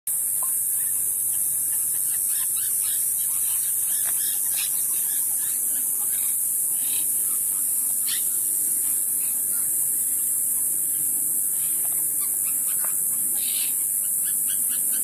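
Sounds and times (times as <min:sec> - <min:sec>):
high-pitched hiss: 0:00.1 - 0:15.0.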